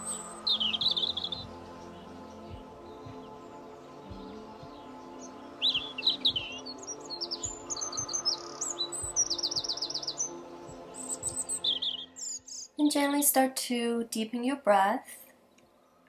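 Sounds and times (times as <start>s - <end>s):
songbirds chirping and trilling: 0.0s - 13.4s, 15.3s - 16.0s
soft background music: 0.0s - 16.0s.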